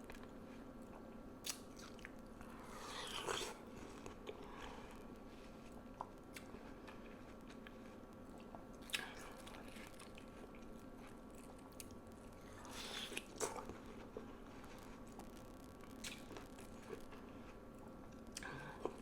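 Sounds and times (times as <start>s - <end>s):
chewing watermelon: 0.1s - 19.0s.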